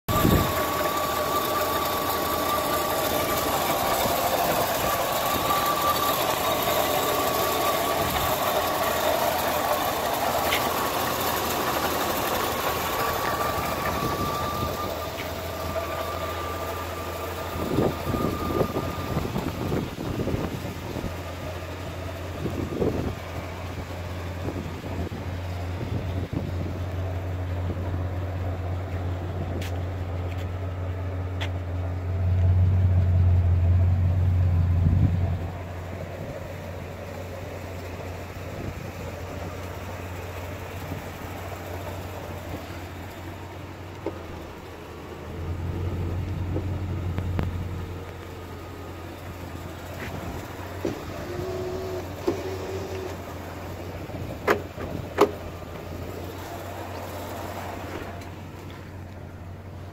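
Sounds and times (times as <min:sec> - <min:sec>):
car engine idling: 0:00.0 - 0:59.9
high engine whine: 0:00.0 - 0:59.9
low exhaust drone: 0:00.1 - 0:59.9.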